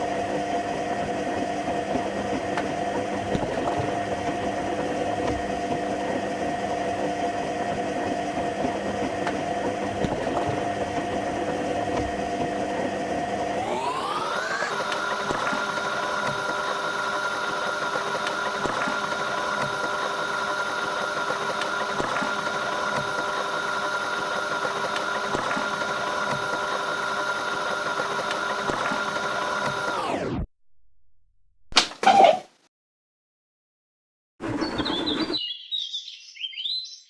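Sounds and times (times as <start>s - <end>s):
washing machine spin cycle whine: 0.0s - 30.5s.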